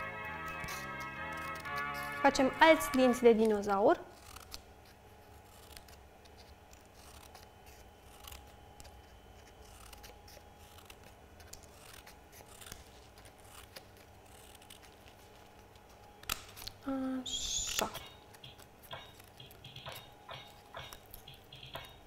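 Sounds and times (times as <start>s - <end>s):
scissors snipping card: 0.1s - 16.8s, 17.4s - 22.0s.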